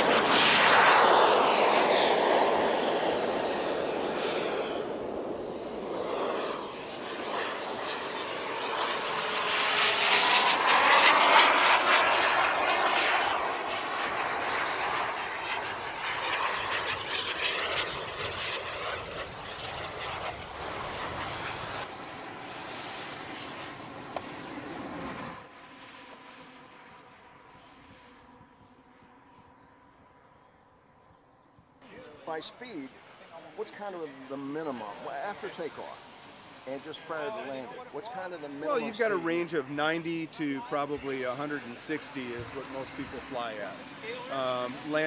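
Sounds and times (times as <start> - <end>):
model jet turbines flying past: 0.0 - 45.0.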